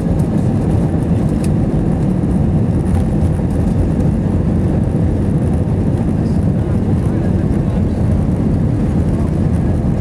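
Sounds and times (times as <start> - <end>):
airplane cabin takeoff rumble: 0.0 - 10.0.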